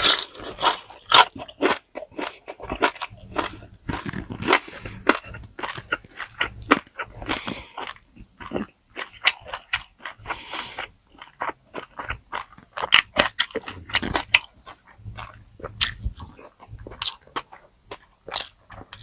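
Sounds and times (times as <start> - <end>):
person chewing crispy food: 0.0 - 19.0.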